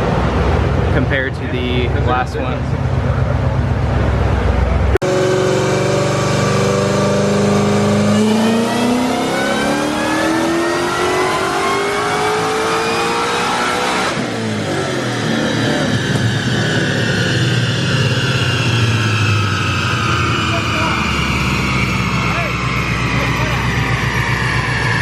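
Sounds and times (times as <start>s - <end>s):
car engine at full throttle: 0.0s - 25.0s
supercharger whine: 0.0s - 25.0s.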